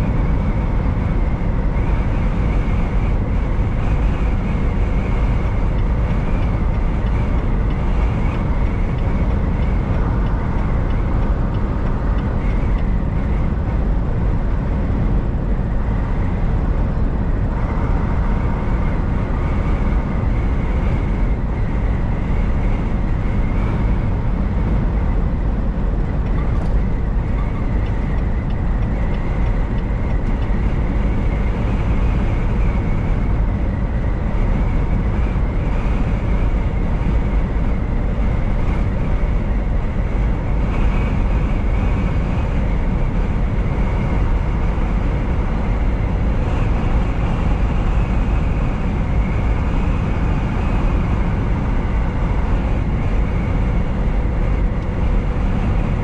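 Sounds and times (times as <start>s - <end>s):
truck engine and road rumble: 0.0s - 56.0s.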